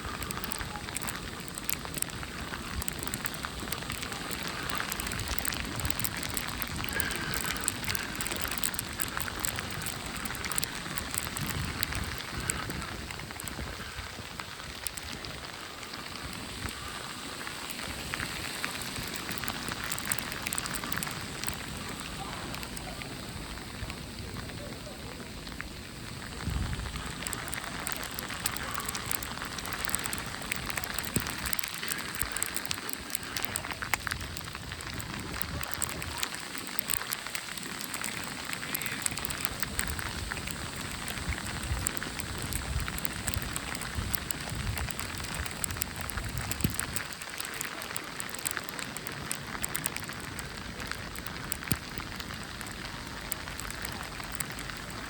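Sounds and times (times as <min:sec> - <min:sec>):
precipitation crackling: 0:00.0 - 0:55.0
steady dense snowstorm hiss: 0:00.0 - 0:55.0
wind rumbling on microphone: 0:00.0 - 0:55.0.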